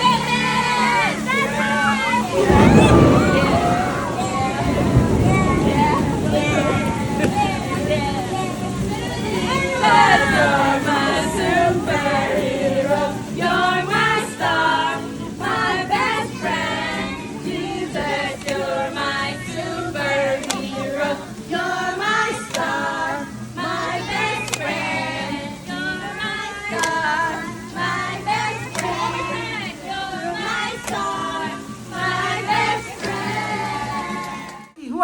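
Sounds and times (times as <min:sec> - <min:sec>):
children's choir singing: 0:00.0 - 0:35.0.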